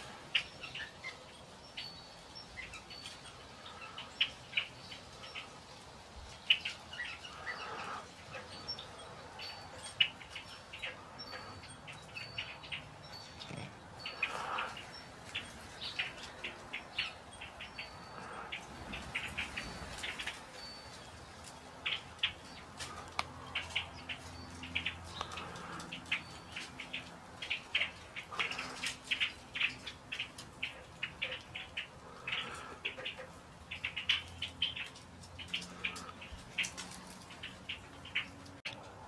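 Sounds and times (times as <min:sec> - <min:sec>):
flock of blackbirds calling: 0:00.0 - 0:39.0.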